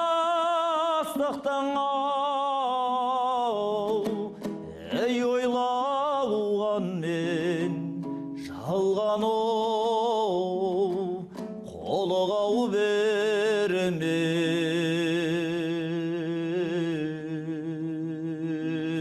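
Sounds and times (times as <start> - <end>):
person singing with vibrato: 0.0 - 19.0.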